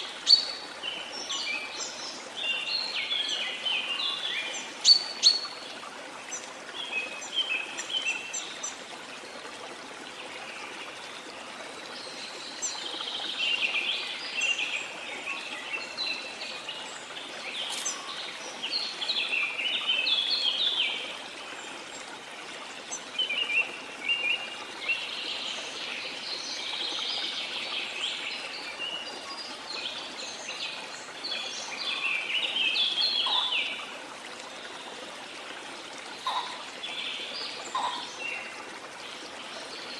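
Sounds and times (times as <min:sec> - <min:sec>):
sea and water noise: 0:00.0 - 0:39.9
songbirds chirping: 0:00.0 - 0:39.9.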